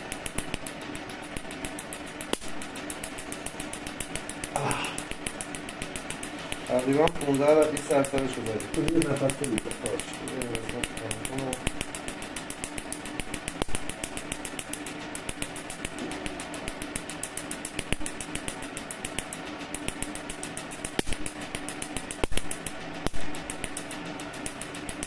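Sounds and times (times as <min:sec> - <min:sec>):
laser sharp snaps: 0:00.0 - 0:25.0
steady hum: 0:00.0 - 0:25.0.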